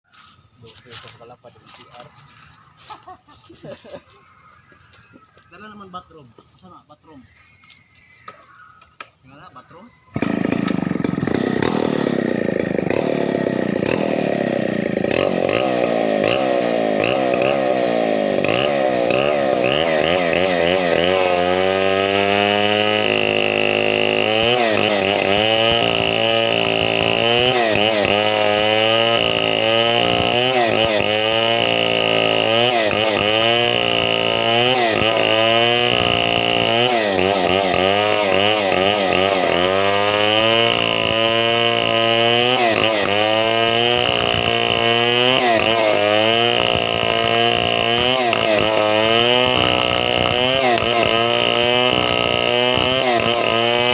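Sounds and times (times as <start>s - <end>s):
chainsaw cutting wood: 0.1s - 3.0s, 10.0s - 53.9s.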